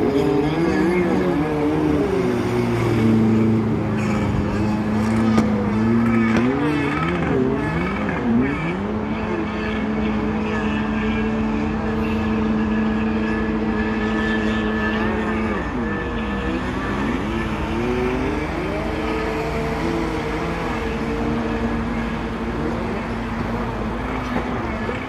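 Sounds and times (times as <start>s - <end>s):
jet ski engine revving: 0.0s - 25.0s.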